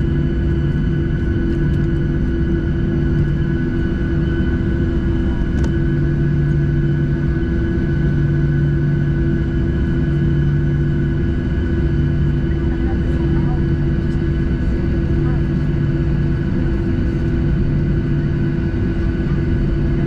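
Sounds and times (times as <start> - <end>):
jet engines idling rumble: 0.0 - 20.0.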